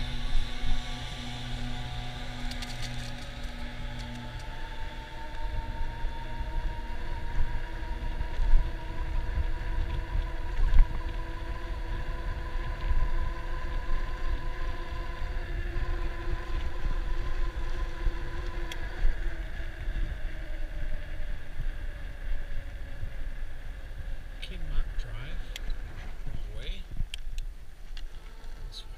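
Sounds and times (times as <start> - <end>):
electric bike motor whining: 0.0 - 28.9
wind rumble on microphone: 0.0 - 28.9.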